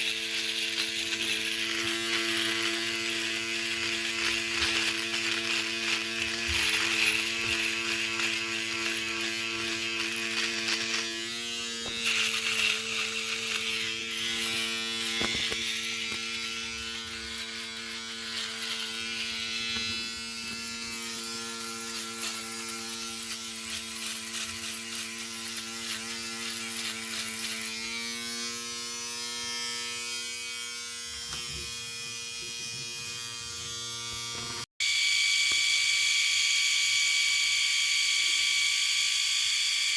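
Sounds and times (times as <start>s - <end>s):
electric shaver buzzing: 0.0s - 39.9s.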